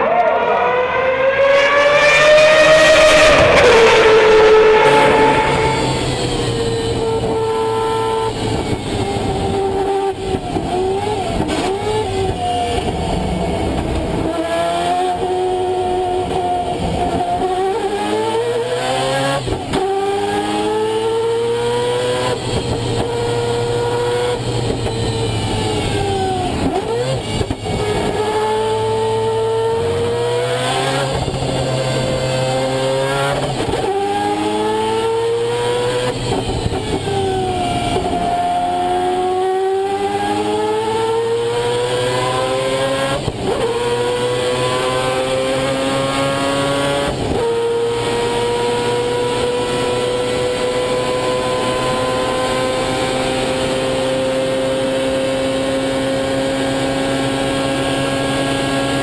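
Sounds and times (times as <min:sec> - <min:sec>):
rotary engine at racing speed: 0:00.0 - 0:59.0.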